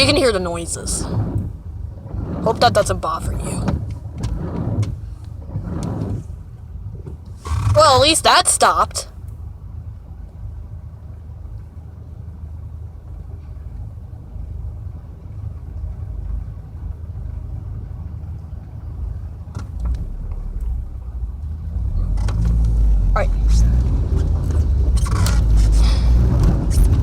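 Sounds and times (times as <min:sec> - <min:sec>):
car interior road rumble: 0:00.0 - 0:27.0.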